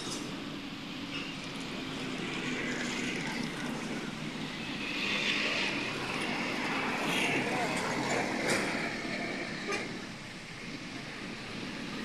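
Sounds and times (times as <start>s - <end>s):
passing vehicle engine and road noise: 0.0s - 12.0s.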